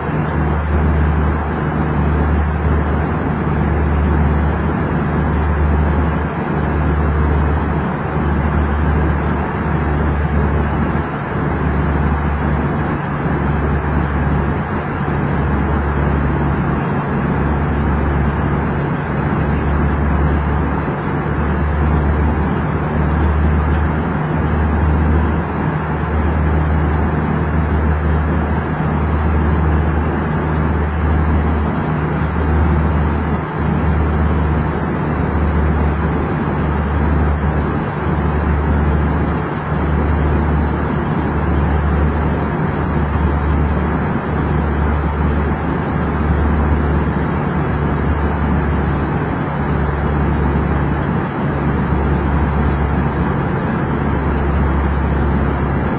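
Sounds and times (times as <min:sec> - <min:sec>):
airliner cabin air rush: 0:00.0 - 0:55.9
pulsing low engine hum: 0:00.0 - 0:55.9.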